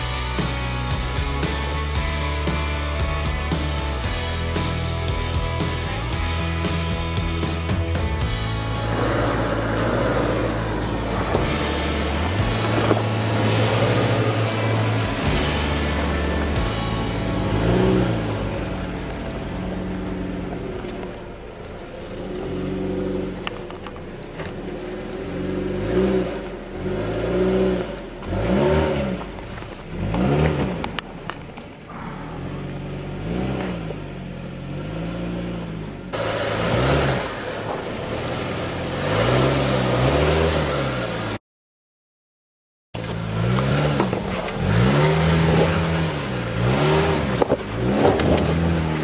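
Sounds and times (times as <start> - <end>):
engine revving: 0.0 - 31.3, 31.9 - 41.4, 43.0 - 49.0.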